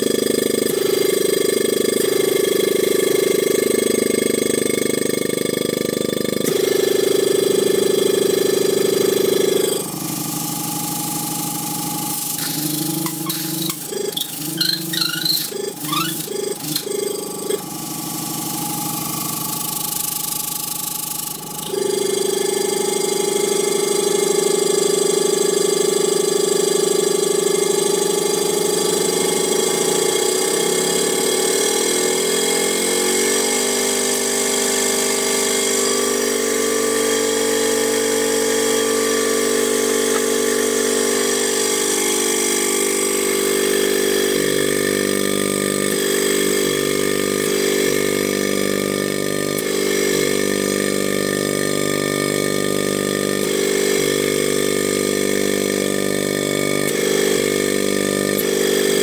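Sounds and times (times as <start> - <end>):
refrigeration compressor whining: 0.0 - 59.0.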